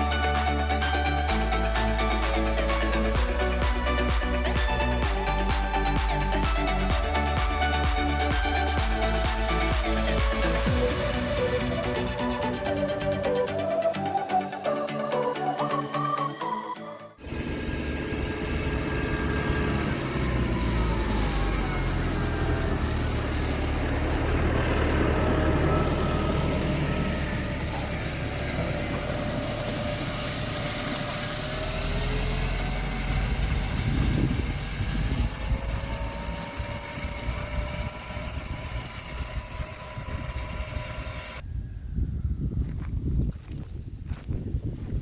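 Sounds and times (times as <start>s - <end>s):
vehicle engine running: 0.0s - 15.9s, 17.2s - 41.4s.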